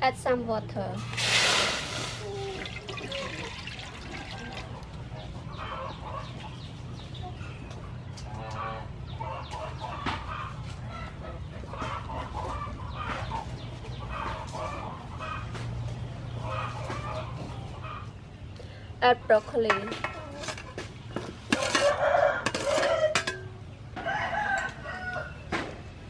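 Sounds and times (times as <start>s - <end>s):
chickens clucking: 1.0s - 26.0s.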